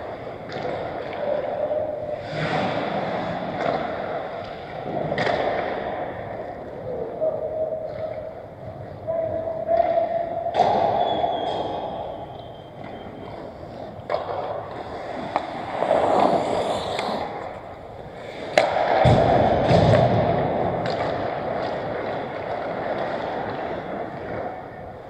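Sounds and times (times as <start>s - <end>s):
skates scraping on ice: 0.1s - 6.6s, 10.7s - 24.9s
hockey sticks and puck clacking: 0.3s - 6.8s, 9.7s - 25.0s.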